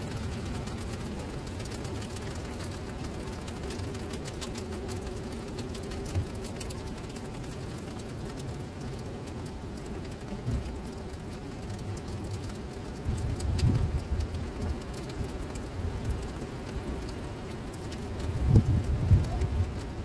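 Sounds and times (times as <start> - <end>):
rain pattering on wet paving: 0.0 - 20.0.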